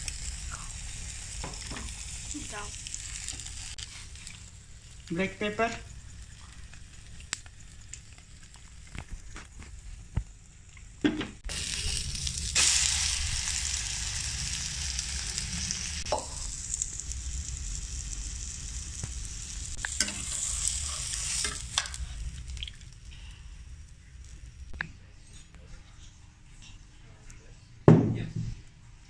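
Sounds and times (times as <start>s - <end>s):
omelette sizzling in frying pan: 0.0s - 24.8s.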